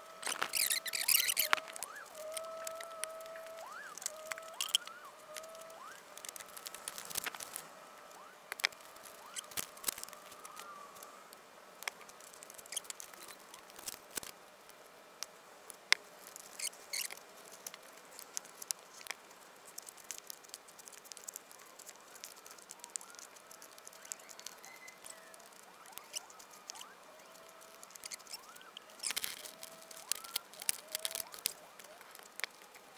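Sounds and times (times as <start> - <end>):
faint steady tone: 0.0 - 32.9.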